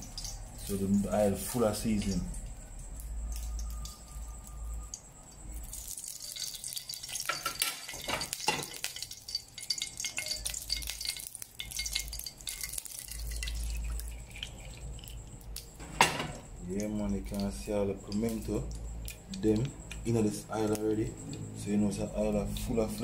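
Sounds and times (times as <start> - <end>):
oil sizzling and crackling in pot: 0.0 - 21.0
light metal clinks: 1.9 - 21.4.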